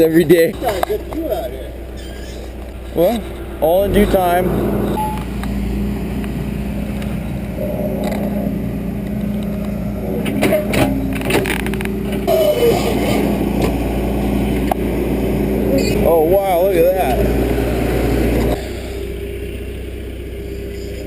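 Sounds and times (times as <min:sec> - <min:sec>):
backhoe diesel engine running: 0:00.0 - 0:21.0.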